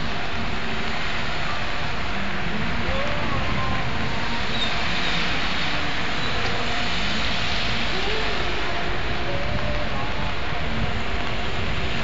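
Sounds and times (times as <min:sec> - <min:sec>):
tyre hiss on wet road: 0:00.0 - 0:12.0
vehicle interior road noise: 0:00.0 - 0:12.0.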